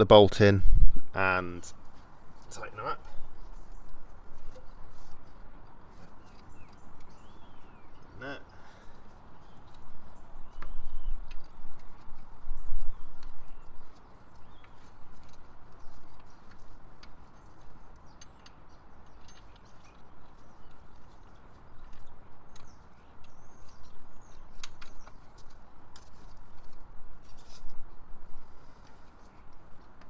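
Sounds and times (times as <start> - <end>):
birds chirping: 1.2 - 25.9.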